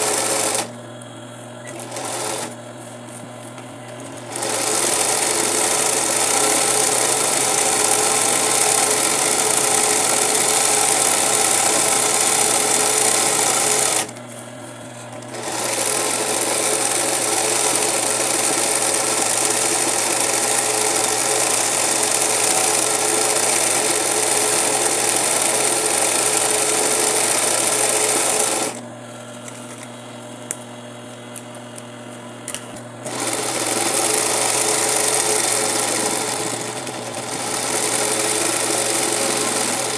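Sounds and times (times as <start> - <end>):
sewing machine stitching: 0.0 - 0.7, 1.6 - 2.6, 4.0 - 14.2, 15.2 - 28.8, 33.0 - 39.9.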